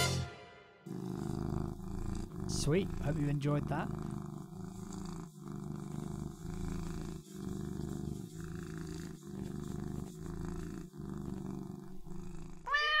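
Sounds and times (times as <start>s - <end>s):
cat purring: 0.9s - 13.0s.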